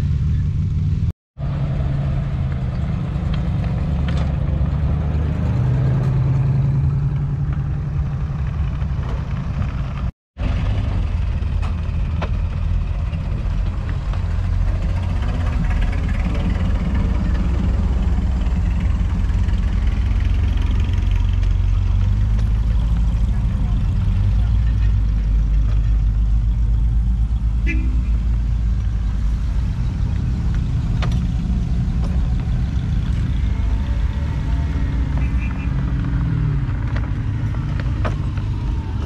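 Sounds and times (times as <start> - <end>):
car engine deep rumble: 0.0 - 39.0.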